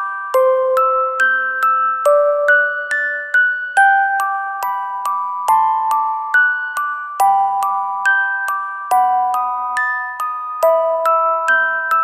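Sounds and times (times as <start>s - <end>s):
bell-like melody: 0.0s - 12.0s.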